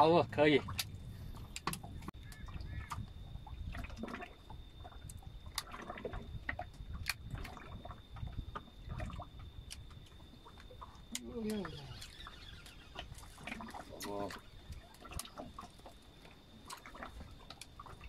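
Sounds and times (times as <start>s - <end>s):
waves lapping against boat hull: 0.0s - 18.0s.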